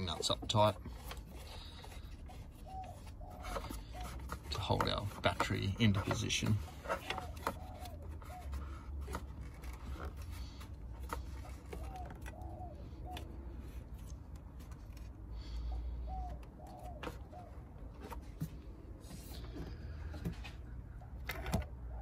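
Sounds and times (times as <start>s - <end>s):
soft bird calls: 0.0s - 14.2s, 15.2s - 22.0s.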